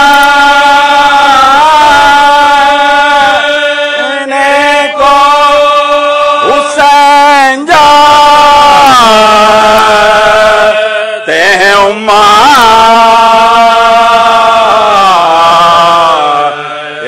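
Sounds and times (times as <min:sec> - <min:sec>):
men singing without instruments: 0:00.0 - 0:17.0.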